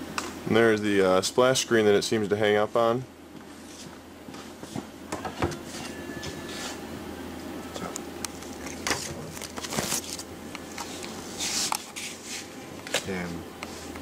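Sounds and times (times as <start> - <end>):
oscilloscope fan hum: 0.0 - 14.0.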